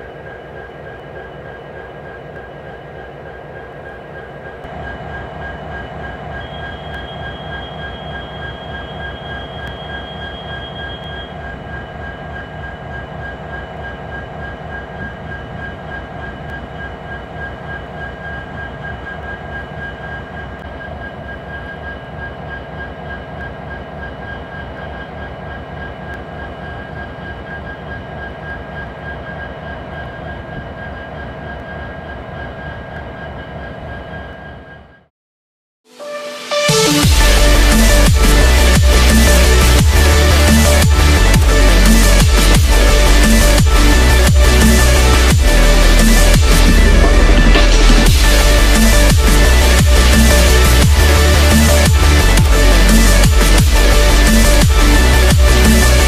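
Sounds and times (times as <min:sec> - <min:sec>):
diesel locomotive engine throb: 0:00.0 - 0:35.1, 0:36.4 - 0:56.0
high whine: 0:00.0 - 0:35.1, 0:35.9 - 0:56.0.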